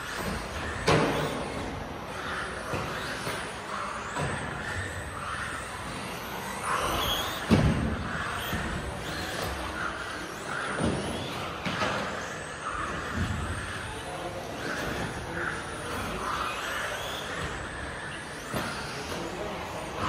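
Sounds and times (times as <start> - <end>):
rc car motor whining: 0.0 - 20.0.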